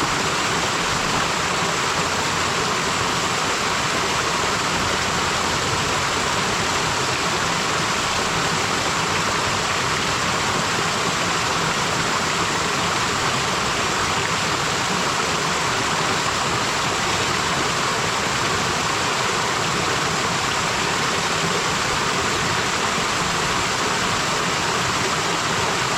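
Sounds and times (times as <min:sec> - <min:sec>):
waterfall pouring and splashing: 0:00.0 - 0:25.9.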